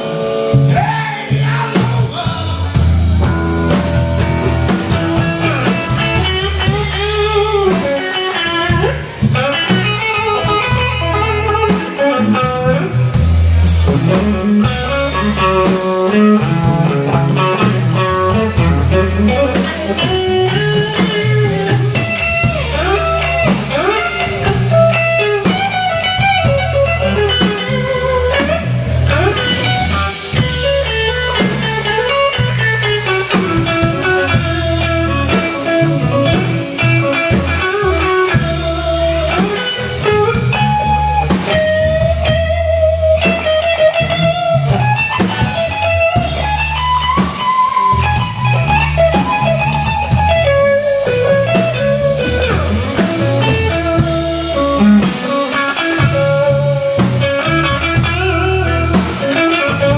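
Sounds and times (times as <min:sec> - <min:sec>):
bass: 0:00.0 - 0:59.9
drums: 0:00.0 - 0:59.9
lead guitar with bent notes: 0:00.0 - 0:59.9.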